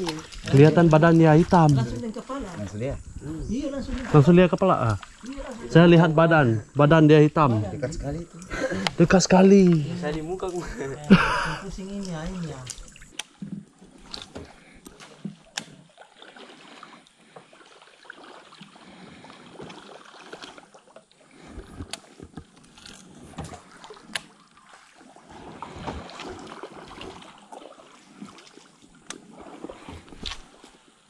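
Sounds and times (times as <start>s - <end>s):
water lapping around canoe: 0.0s - 31.0s.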